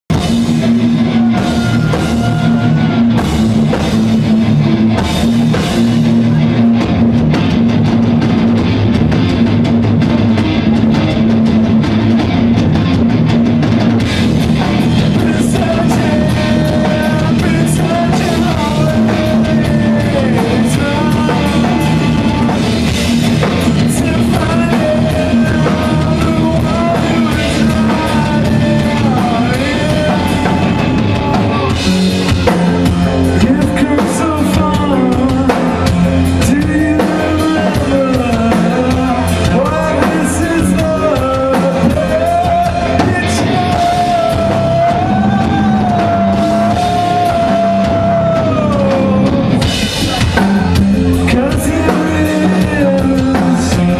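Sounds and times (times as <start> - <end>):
man singing: 0.1 - 4.2, 14.2 - 53.9
live rock band playing: 0.1 - 53.9.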